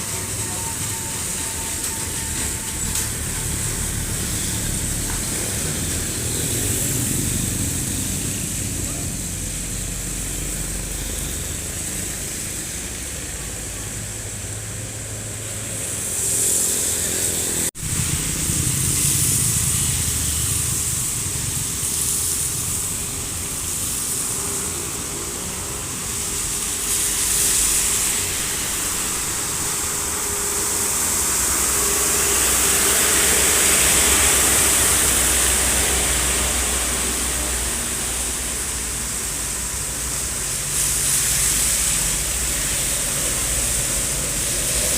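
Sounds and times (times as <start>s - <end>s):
heavy truck engine roaring: 0.0s - 44.9s.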